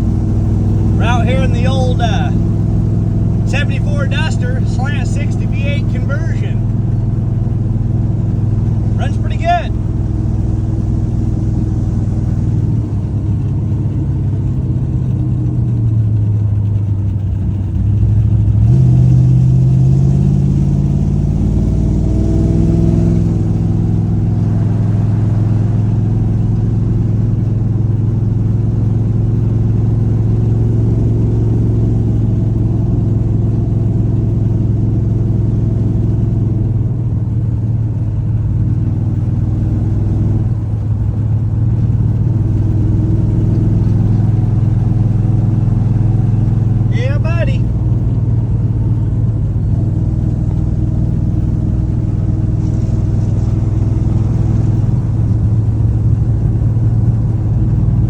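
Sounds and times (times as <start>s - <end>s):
car engine driving: 0.0s - 58.0s.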